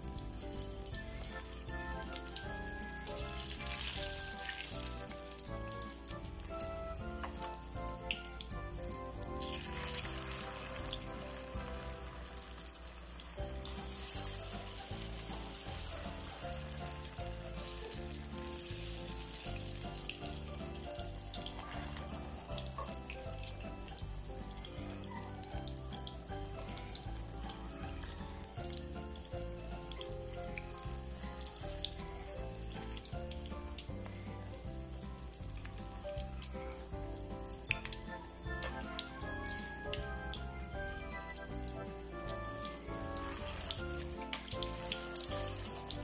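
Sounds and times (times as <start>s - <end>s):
background music with steady beat: 0.0s - 46.0s
deep-frying sizzle with crackling pops: 0.0s - 46.0s.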